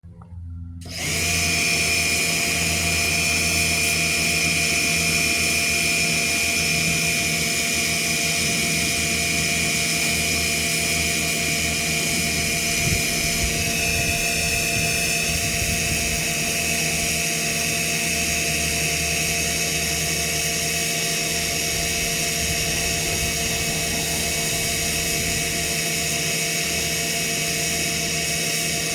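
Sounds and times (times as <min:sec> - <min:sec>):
pressure washer whining: 0:00.8 - 0:28.9.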